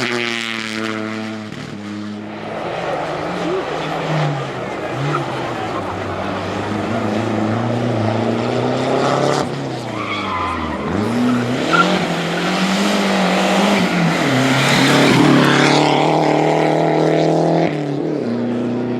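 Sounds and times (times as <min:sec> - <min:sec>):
tyre noise on road: 0:00.0 - 0:18.7
rally car engine revving: 0:00.0 - 0:18.9.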